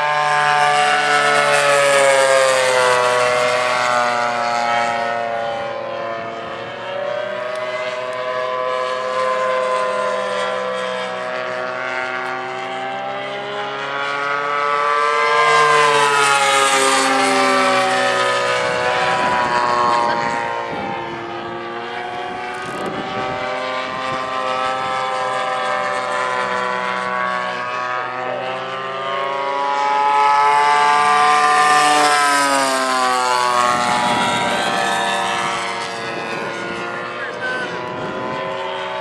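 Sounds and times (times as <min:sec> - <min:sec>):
model airplane engines racing: 0:00.0 - 0:39.0.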